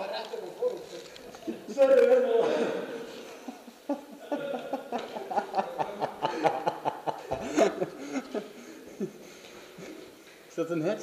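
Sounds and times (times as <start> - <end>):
people laughing: 1.4 - 10.2.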